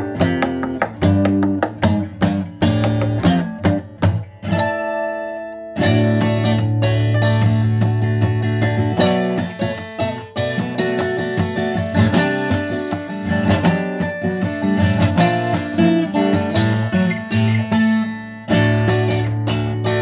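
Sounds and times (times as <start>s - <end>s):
fingerstyle acoustic guitar: 0.0s - 20.0s.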